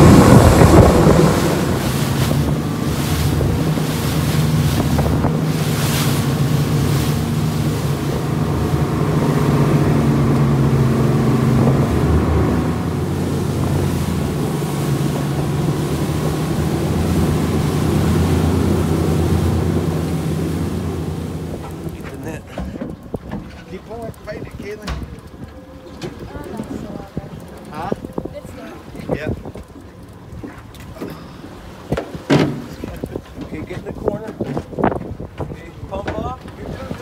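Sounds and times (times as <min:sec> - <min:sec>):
boat engine drone: 0:00.0 - 0:37.0
water rushing: 0:00.0 - 0:37.0
wind buffeting microphone: 0:00.0 - 0:37.0.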